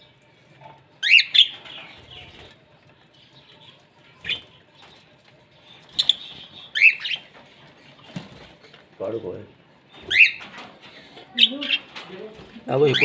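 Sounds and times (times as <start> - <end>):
parrots chirping: 0.6 - 8.8, 9.7 - 13.0.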